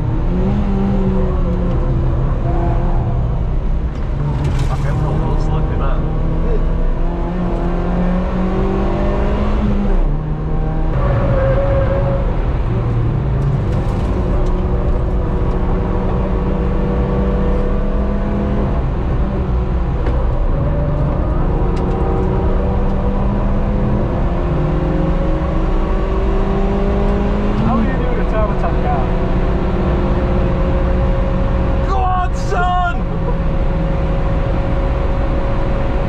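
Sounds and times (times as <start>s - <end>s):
car engine at speed: 0.0s - 36.0s.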